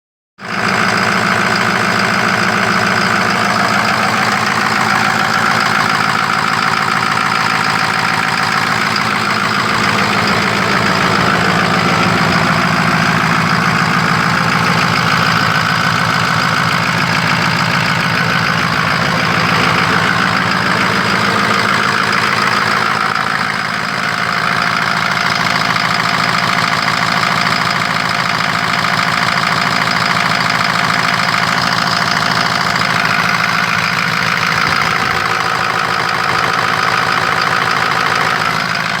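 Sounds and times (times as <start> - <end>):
truck engine idling: 0.4 - 39.0.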